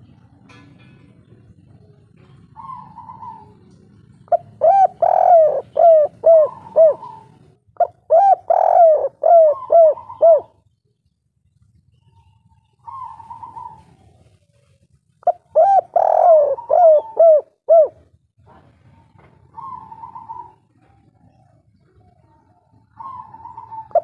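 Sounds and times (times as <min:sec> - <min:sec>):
dove cooing: 0:01.4 - 0:10.7, 0:12.6 - 0:18.2, 0:19.0 - 0:24.0
faint higher dove cooing: 0:01.5 - 0:10.6, 0:12.1 - 0:18.1, 0:18.7 - 0:24.0.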